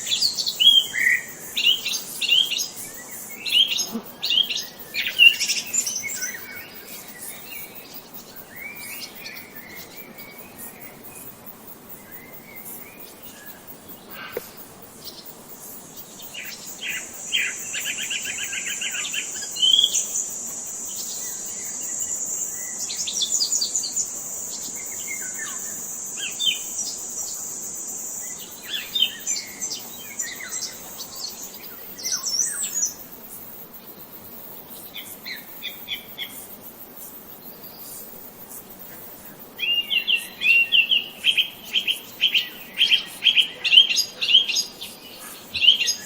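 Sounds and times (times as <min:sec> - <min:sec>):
wild birds chirping: 0:00.0 - 0:46.0.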